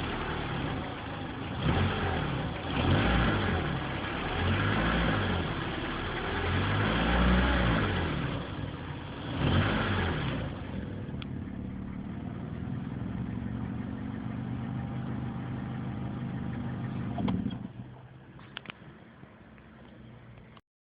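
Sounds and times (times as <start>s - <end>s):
car engine revving and idling: 0.0s - 20.6s.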